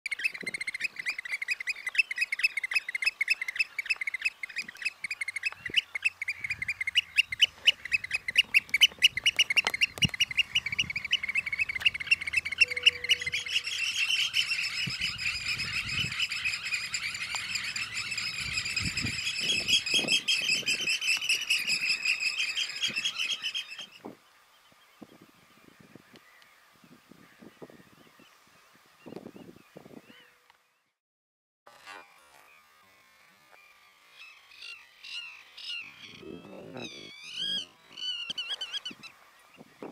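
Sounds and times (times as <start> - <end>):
birds piping shrill notes: 0.1 - 26.6, 31.8 - 39.9.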